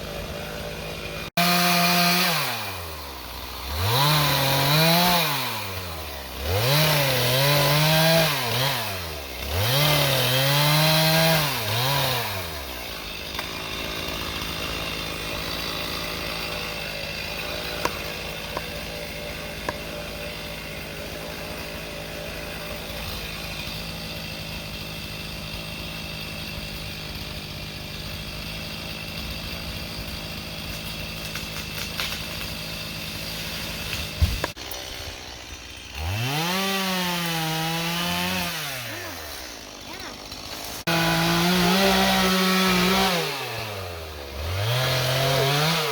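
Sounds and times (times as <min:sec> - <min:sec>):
chainsaw revving: 0:00.0 - 0:45.9.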